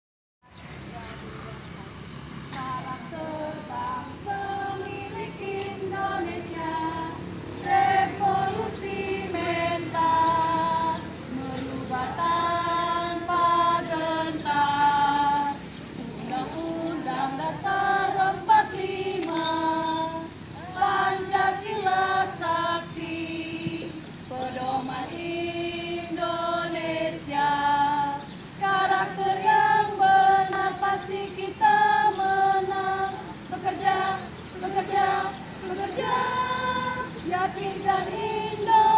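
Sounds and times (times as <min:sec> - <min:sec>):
women's choir singing march: 0:02.4 - 0:38.9.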